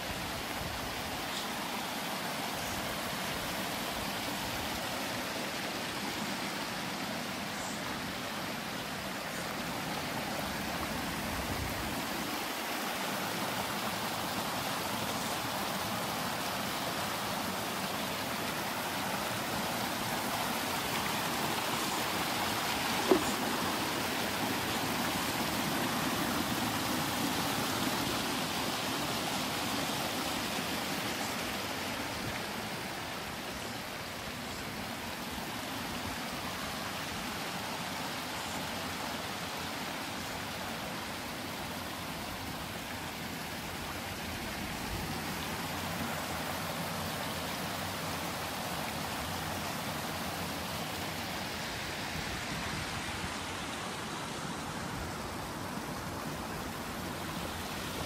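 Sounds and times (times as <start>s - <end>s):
stream flowing and splashing: 0.0s - 58.0s.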